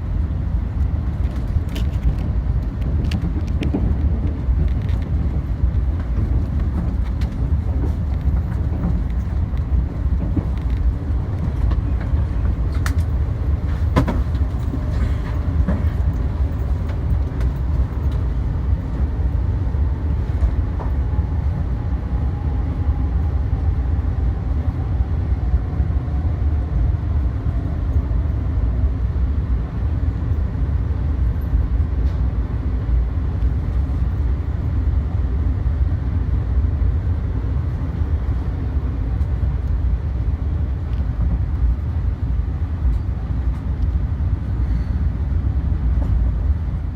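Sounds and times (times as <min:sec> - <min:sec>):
train rumble inside passenger car: 0:00.0 - 0:46.9.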